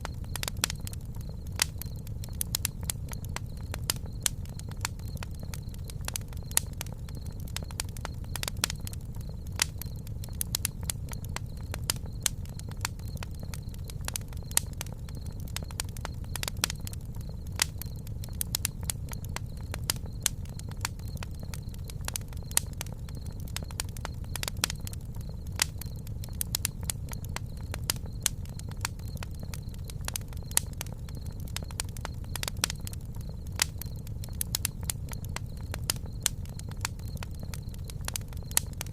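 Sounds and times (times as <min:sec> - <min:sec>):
campfire crackling: 0:00.0 - 0:38.9
low rumble of burning fire: 0:00.0 - 0:38.9
sharp pops from fire: 0:00.0 - 0:38.9.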